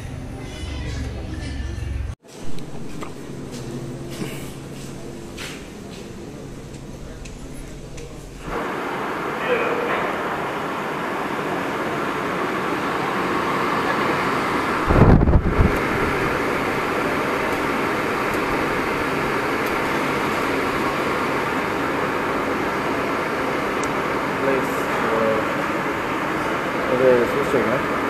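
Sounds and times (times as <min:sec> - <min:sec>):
steady rushing ambient noise: 0:00.0 - 0:28.0.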